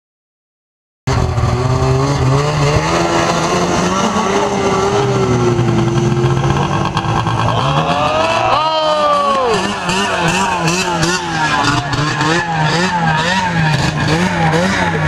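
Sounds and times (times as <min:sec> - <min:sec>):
snowmobile engine at high revs: 0:01.1 - 0:15.0.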